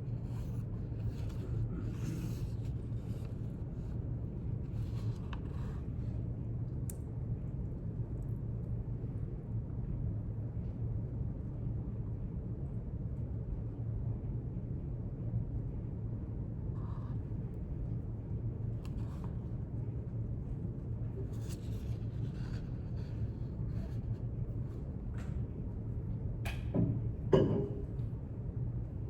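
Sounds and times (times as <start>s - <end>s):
low room tone rumble: 0.0s - 29.0s.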